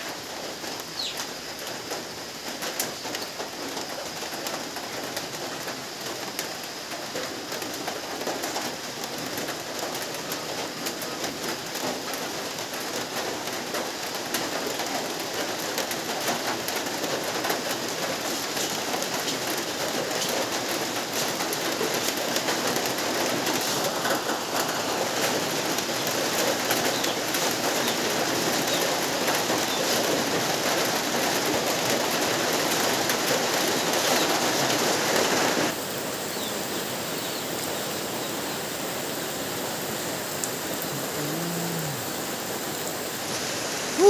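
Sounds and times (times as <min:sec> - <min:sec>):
rain falling: 0:00.0 - 0:44.0.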